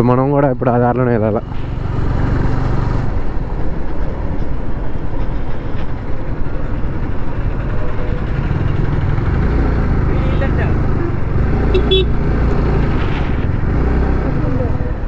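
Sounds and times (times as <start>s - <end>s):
motorcycle engine humming: 0.9s - 15.0s.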